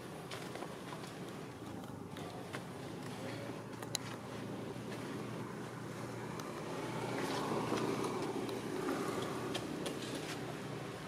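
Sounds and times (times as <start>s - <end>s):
distant vehicle engine: 0.0s - 11.0s.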